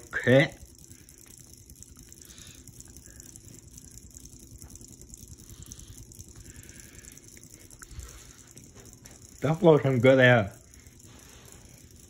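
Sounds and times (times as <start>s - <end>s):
ceiling fan motor hum: 0.0s - 12.0s
fan blades fluttering: 0.0s - 12.0s.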